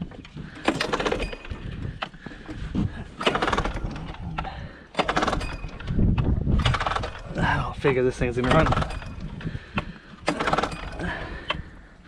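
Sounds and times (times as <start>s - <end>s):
recoil starter cranking engine: 0.0s - 11.9s.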